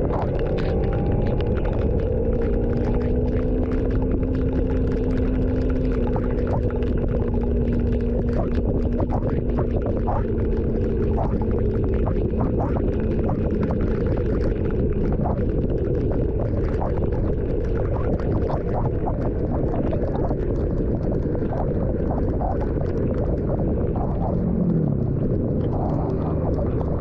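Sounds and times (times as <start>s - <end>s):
low hum: 0.0s - 27.0s
raindrops hitting: 0.0s - 27.0s.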